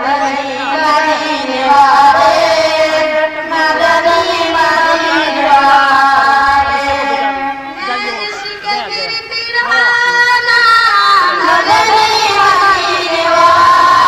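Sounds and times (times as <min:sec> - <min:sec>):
girls singing into microphones: 0:00.0 - 0:14.0.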